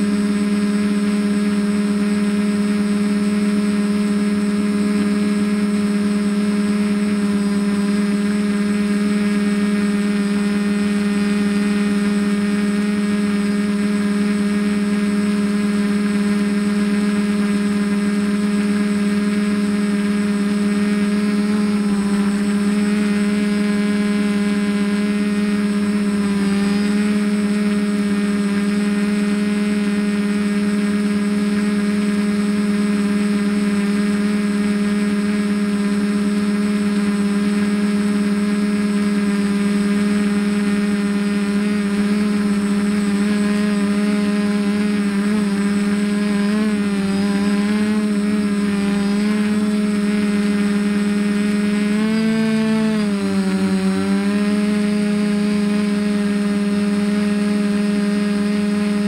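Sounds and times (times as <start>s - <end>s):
drone propellers buzzing whine: 0.0s - 59.0s.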